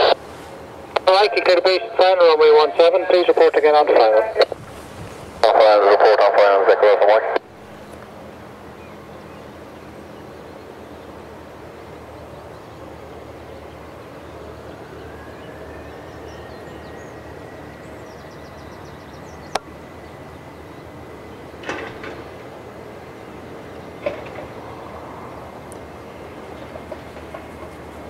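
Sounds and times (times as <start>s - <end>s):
distant jet engines spooling up: 0.0s - 28.0s.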